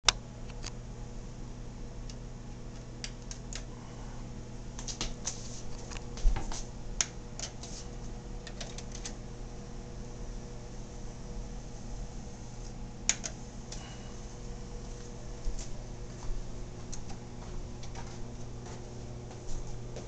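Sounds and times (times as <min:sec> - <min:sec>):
steady low hum: 0:00.1 - 0:20.0.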